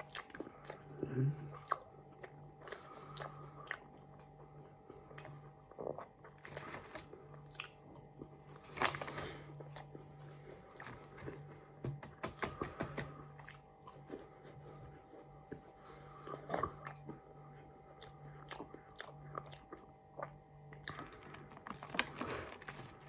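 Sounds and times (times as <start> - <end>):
faint steady hum: 0.0 - 23.0
person chewing crunchy food: 0.0 - 23.0.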